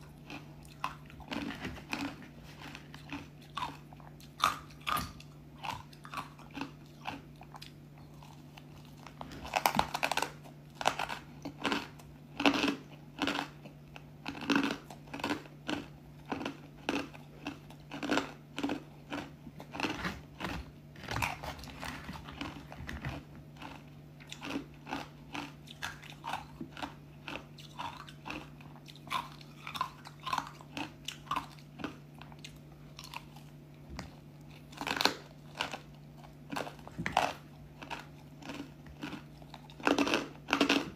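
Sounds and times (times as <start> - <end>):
crunching and chewing ice: 0.0 - 40.9
steady low hum: 0.0 - 40.9.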